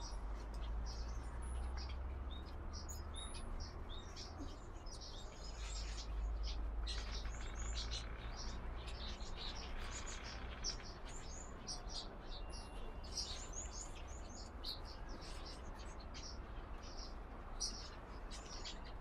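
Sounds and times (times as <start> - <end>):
flock of small birds chirping: 0.0 - 19.0.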